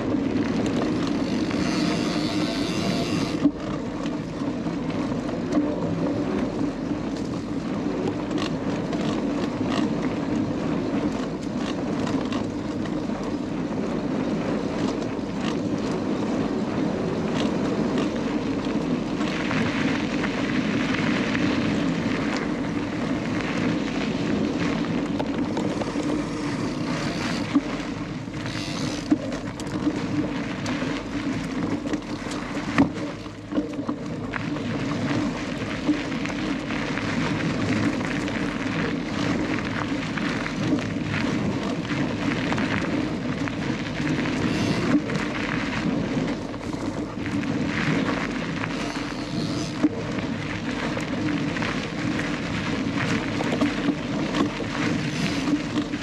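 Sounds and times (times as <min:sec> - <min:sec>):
bike knocking and rattling: 0:00.0 - 0:56.0
tyre and wind noise: 0:00.0 - 0:56.0.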